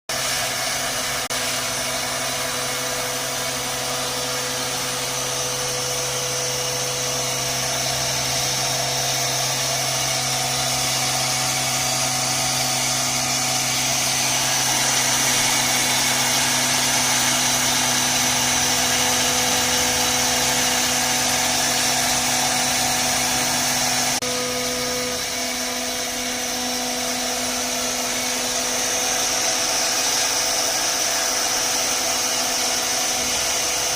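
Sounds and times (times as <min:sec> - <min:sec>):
constant machine hum: 0:00.1 - 0:33.9
router cutting board: 0:00.1 - 0:33.9.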